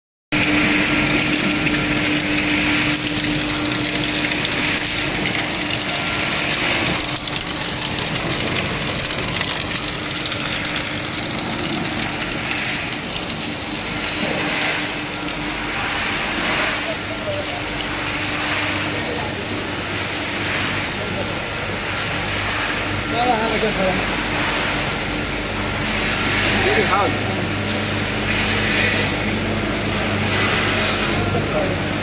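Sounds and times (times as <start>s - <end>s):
motor hum: 0.3s - 32.0s.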